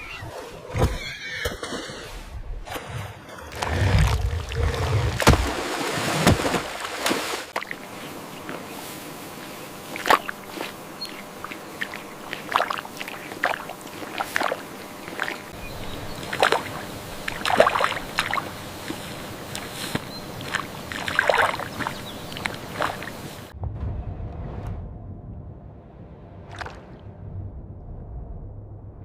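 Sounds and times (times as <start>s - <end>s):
water splashing and sloshing: 0.0s - 23.6s, 26.4s - 27.2s.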